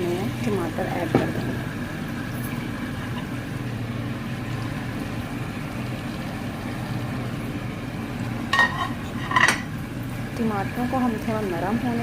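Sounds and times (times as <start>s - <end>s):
stove low hum: 0.0s - 12.0s.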